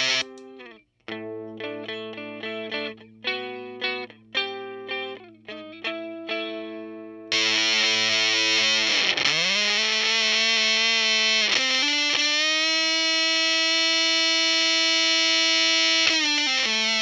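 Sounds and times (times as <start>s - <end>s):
fuzz electric guitar notes: 0.0s - 17.0s.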